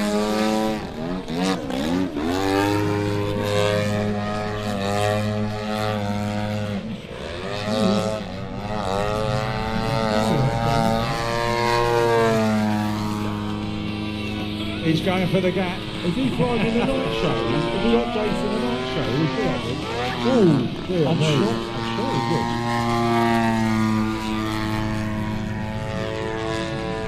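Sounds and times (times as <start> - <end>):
model plane engine: 0.0 - 27.0.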